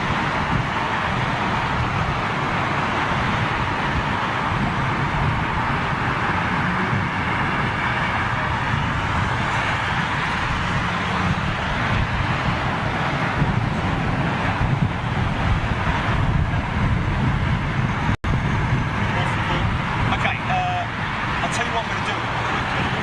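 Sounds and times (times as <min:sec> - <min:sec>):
jet aircraft engine noise: 0:00.0 - 0:23.0.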